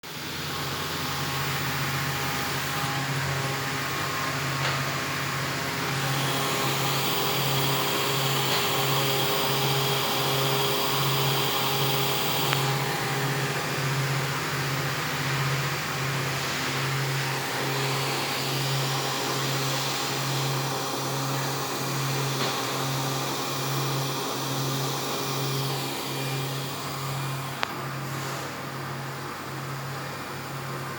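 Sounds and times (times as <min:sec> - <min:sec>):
high whine: 0:00.1 - 0:28.0.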